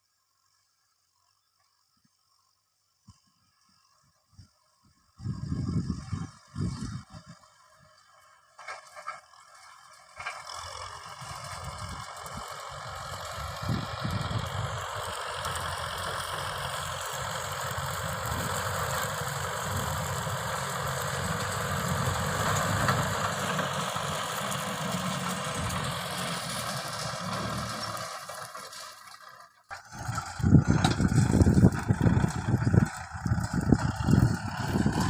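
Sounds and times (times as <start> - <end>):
tractor diesel engine running: 5.2 - 35.0.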